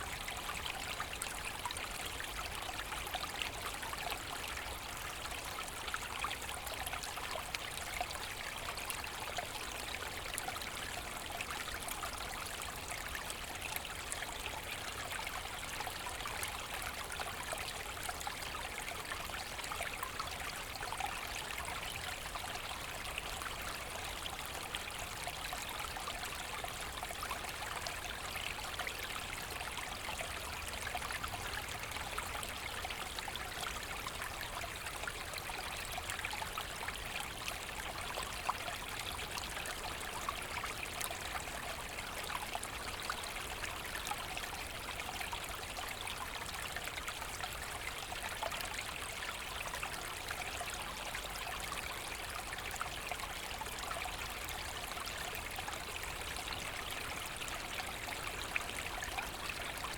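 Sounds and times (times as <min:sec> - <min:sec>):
brook running and trickling: 0:00.0 - 0:59.9.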